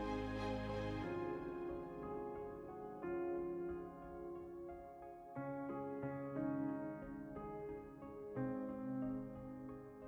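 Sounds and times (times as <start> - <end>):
soft piano-like keyboard chords: 0.0 - 10.0.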